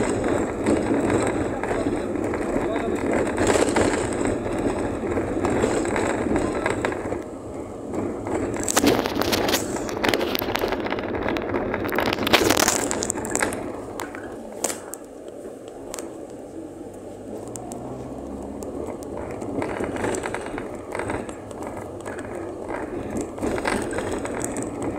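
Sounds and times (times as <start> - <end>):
sharp knocks over bumps: 0.0 - 24.9
tyre and road noise: 0.0 - 24.9
vehicle body rattling: 0.0 - 24.9.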